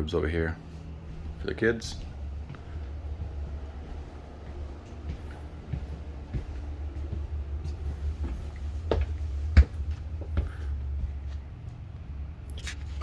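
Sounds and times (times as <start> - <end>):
steady low rumble: 0.0 - 13.0
footsteps: 0.6 - 13.0.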